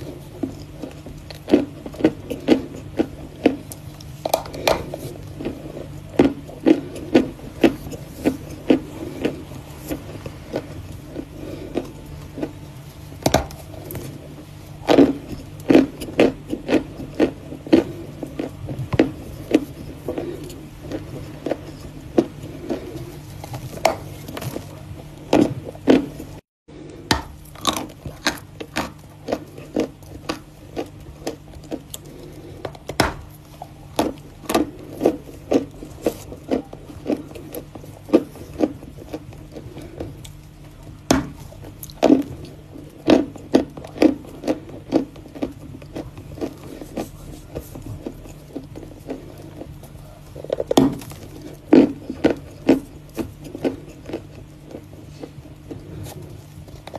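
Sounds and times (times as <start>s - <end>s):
chalk crunching while chewed: 0.0s - 56.9s
steady low hum: 0.0s - 56.9s.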